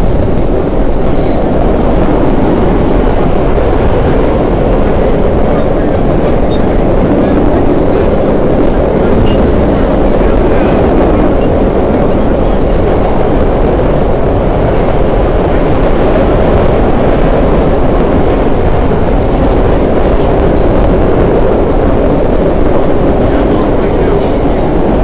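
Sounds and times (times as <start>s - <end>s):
subway car wheels rumbling on rail: 0.0s - 25.0s.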